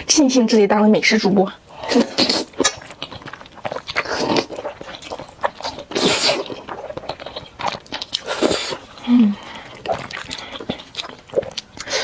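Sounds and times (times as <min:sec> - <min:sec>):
wet chewing and mouth clicks: 0:00.0 - 0:12.0
noodle slurp: 0:01.7 - 0:12.0.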